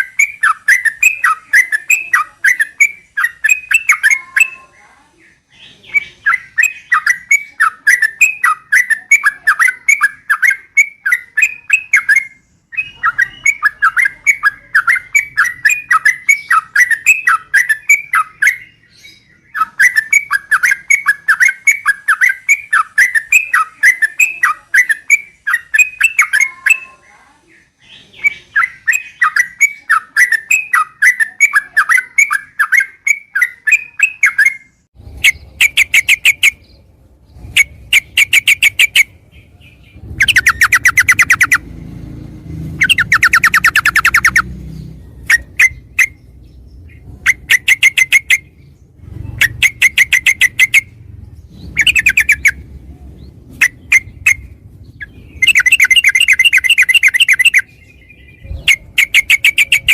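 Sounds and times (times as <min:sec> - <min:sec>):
fast rattling bird trills: 0:00.0 - 0:04.7, 0:05.8 - 0:27.0, 0:28.2 - 0:59.9
bird chattering song: 0:00.0 - 0:59.9.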